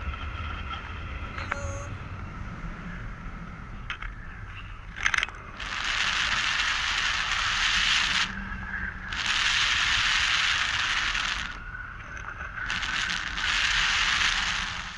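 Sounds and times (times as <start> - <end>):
low rumble of wind buffeting: 0.0 - 14.9.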